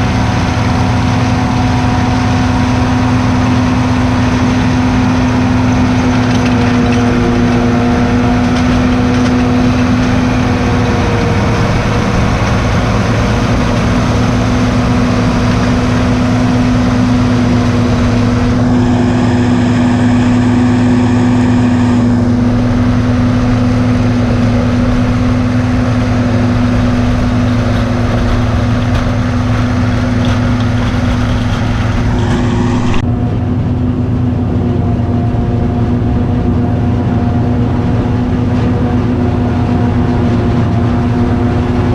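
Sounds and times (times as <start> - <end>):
diesel engine drone: 0.0 - 41.9.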